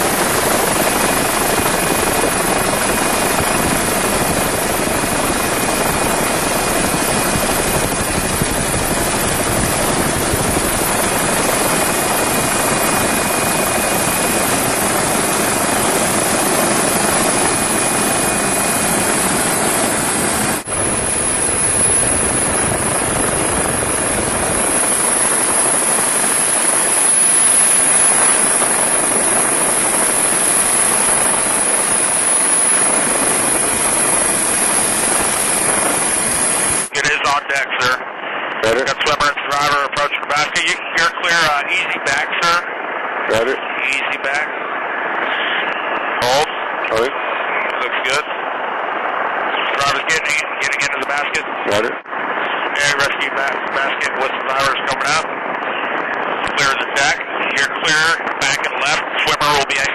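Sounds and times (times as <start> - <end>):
helicopter rotor and turbine noise: 0.0 - 59.9
high turbine whine: 0.0 - 59.9.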